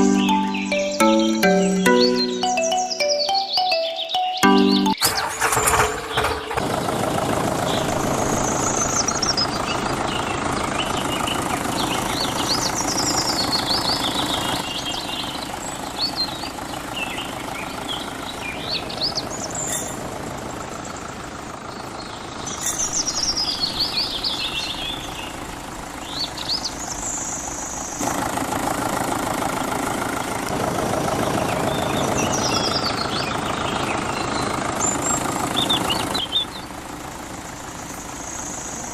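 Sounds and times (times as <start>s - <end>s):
birds chirping: 0.0s - 7.0s, 7.6s - 28.0s, 30.1s - 38.9s
small engine idling: 4.9s - 38.9s.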